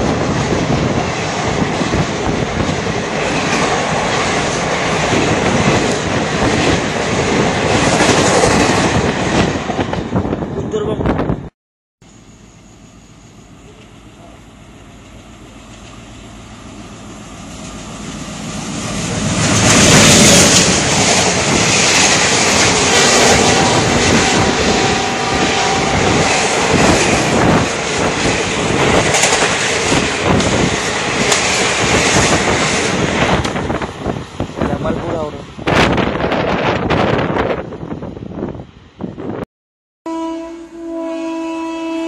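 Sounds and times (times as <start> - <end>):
train passing at speed: 0.0 - 11.5, 12.1 - 39.4.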